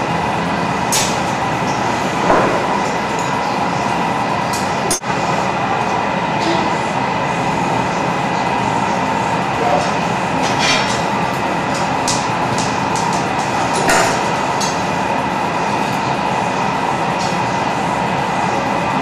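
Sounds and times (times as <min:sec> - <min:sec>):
gas burners roaring: 0:00.0 - 0:19.0.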